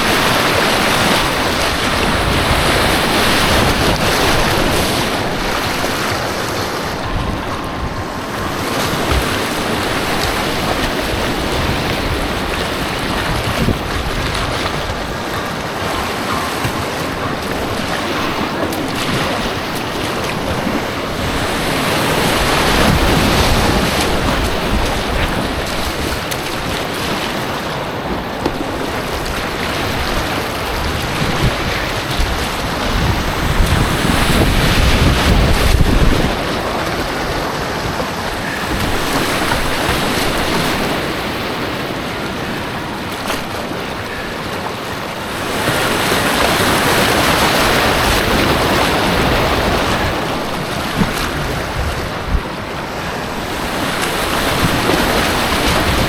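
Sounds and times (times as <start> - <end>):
rushing white water: 0.0 - 56.0.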